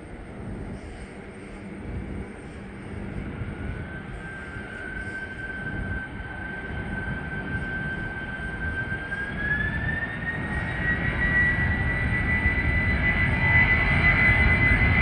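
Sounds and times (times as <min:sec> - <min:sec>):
jet engine whine: 0:00.0 - 0:15.0.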